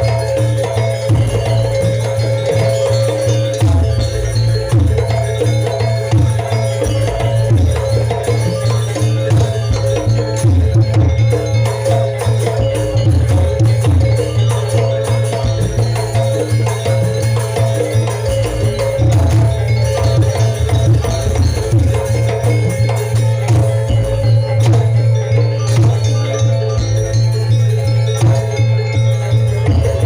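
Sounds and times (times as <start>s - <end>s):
hand drum strokes: 0.0s - 30.0s
struck percussion ringing tones: 0.0s - 30.0s.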